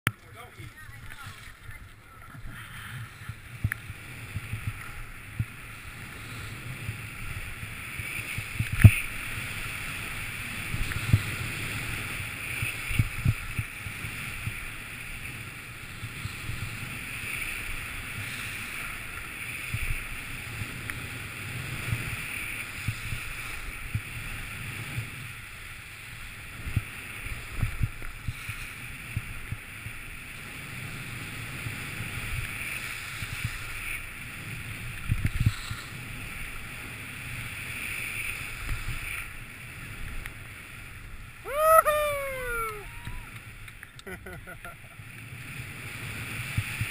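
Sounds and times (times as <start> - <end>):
skis scraping over snow: 0.1 - 41.4, 44.8 - 46.9.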